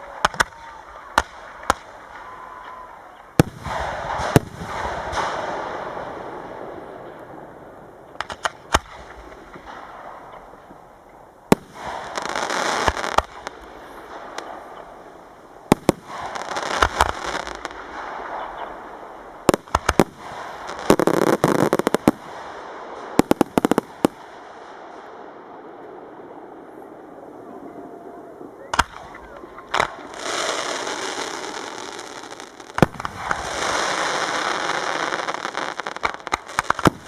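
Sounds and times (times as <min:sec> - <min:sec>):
fireworks bursting: 0:00.0 - 0:27.0, 0:27.6 - 0:37.0
fireworks crackling: 0:00.0 - 0:37.0.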